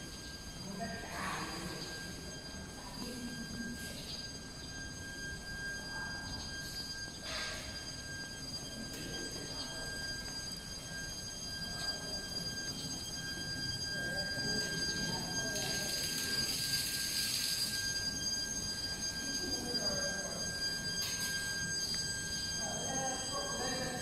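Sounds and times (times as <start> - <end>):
high-pitched electrical whine: 0.0 - 24.0.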